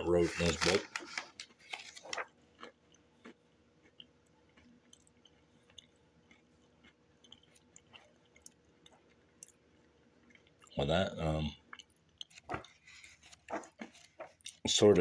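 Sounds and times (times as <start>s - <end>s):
crackers being chewed: 0.3s - 10.8s, 11.5s - 14.8s.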